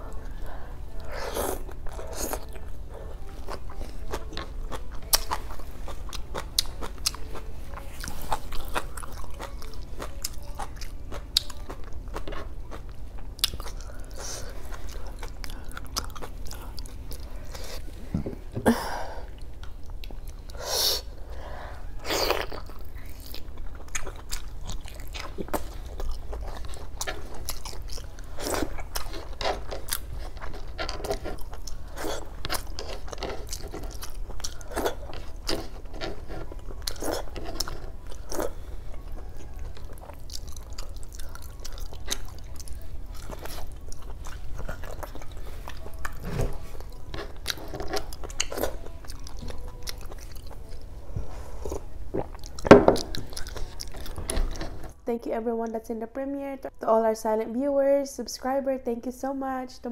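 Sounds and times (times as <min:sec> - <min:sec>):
close chewing and mouth sounds: 0:00.0 - 0:55.8.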